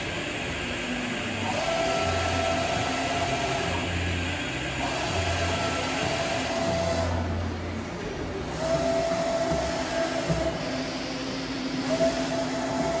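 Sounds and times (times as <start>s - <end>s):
machine whine: 0.0s - 13.0s
mechanical hum and hiss: 0.0s - 13.0s.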